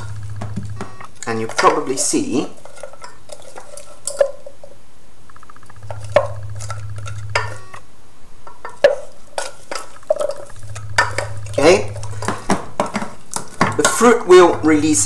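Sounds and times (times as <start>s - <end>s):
low hum: 0.0s - 1.9s, 4.6s - 15.0s
spoon stirring thick compote: 0.0s - 4.6s, 5.8s - 7.7s, 8.4s - 15.0s.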